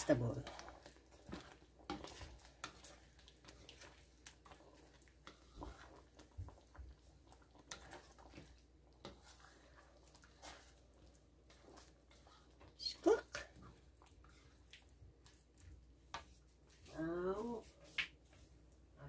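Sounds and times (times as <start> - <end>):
utensil stirring sauce in metal wok: 0.0 - 18.8.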